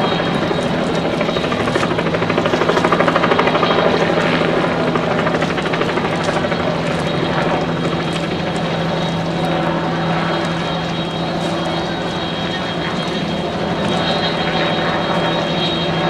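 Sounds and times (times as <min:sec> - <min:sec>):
engine drone with fast beating: 0:00.0 - 0:16.0.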